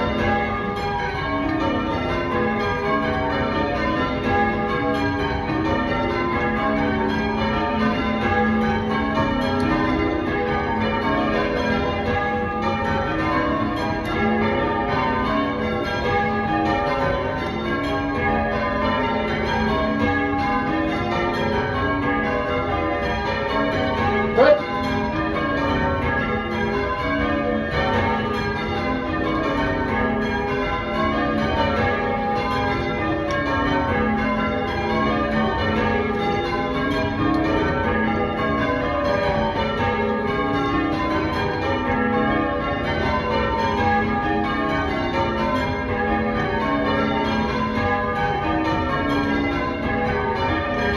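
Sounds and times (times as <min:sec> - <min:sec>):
church bells ringing changes: 0:00.0 - 0:50.9.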